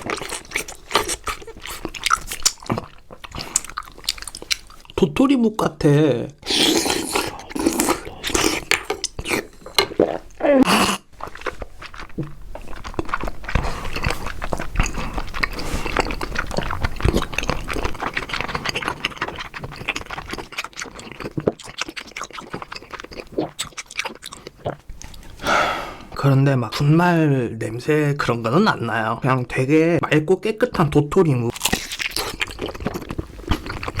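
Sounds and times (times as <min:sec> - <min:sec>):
chewing of chewy food: 0:00.0 - 0:05.2, 0:06.3 - 0:26.9, 0:30.5 - 0:34.0.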